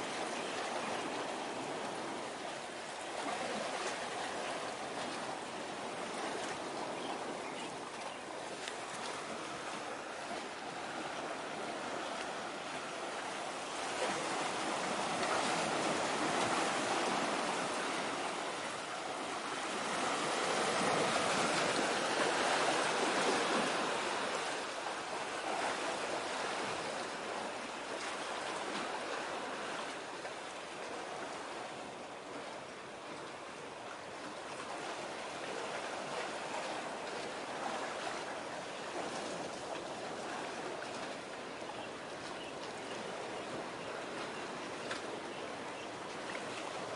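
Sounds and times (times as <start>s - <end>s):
sea water rushing: 0.0s - 46.9s.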